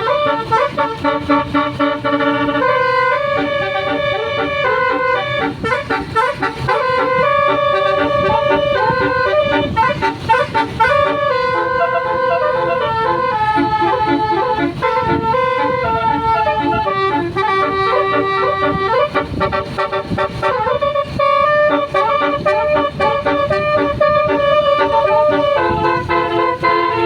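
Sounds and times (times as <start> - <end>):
multi-tone bus air horn melody: 0.0 - 27.0.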